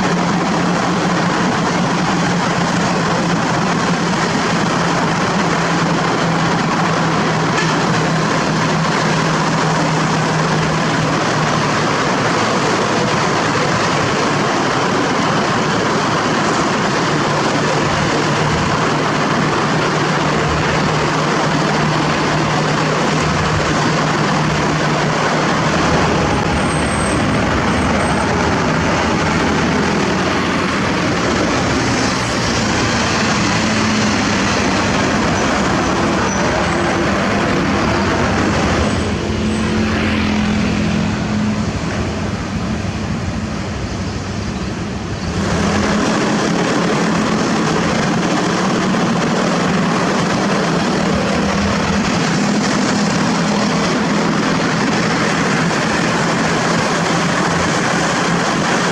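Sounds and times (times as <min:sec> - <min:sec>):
loud road noise: 0:00.0 - 0:58.9
truck diesel engine humming: 0:00.0 - 0:58.9.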